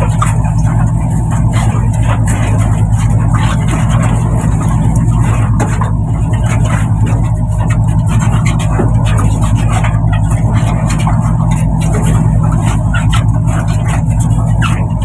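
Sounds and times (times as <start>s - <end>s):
boat engine droning: 0.0s - 15.0s
crates knocking and clattering: 0.0s - 15.0s.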